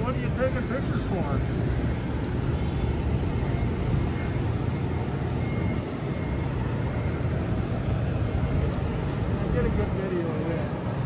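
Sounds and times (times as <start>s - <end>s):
steady low rumbling noise: 0.0s - 11.0s.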